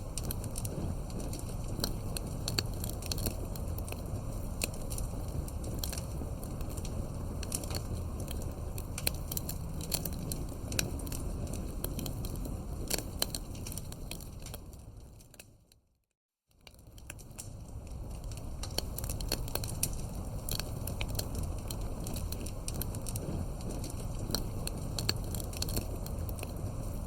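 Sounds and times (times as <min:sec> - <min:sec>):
campfire crackling and snapping: 0:00.0 - 0:15.8, 0:16.5 - 0:27.0.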